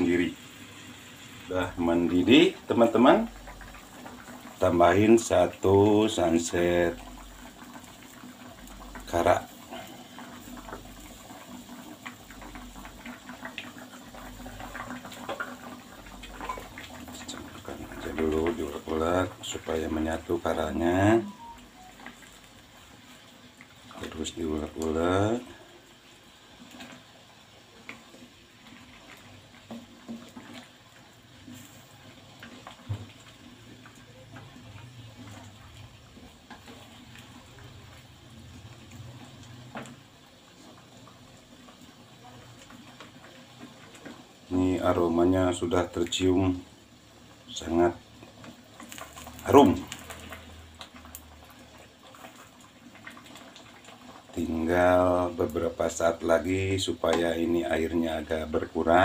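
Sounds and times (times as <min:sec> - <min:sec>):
broth bubbling in a wok: 0:00.0 - 0:59.0.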